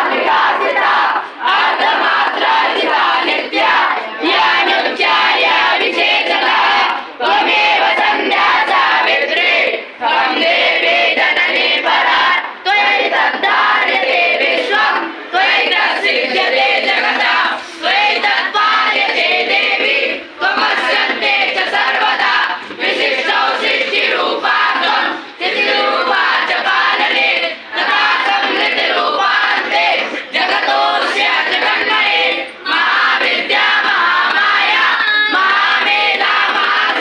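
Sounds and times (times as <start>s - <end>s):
group chanting in unison: 0.0s - 37.0s.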